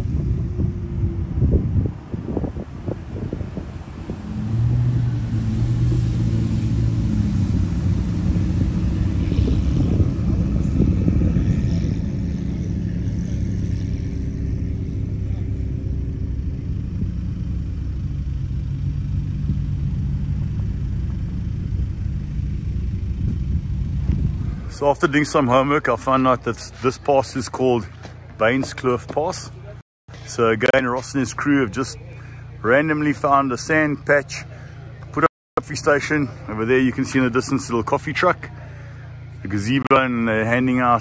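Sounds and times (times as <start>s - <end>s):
car approaching with popping exhaust: 0.0s - 41.0s
low engine drone: 0.0s - 41.0s.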